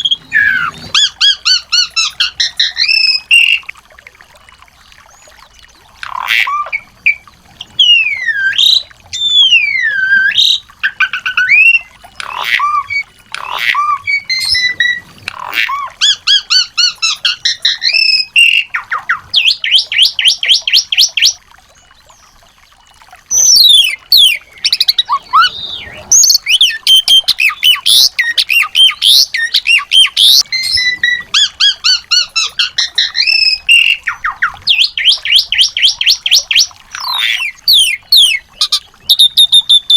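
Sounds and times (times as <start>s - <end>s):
songbirds singing: 0.0s - 39.9s
bird trills rattling: 5.9s - 21.3s, 23.3s - 39.9s.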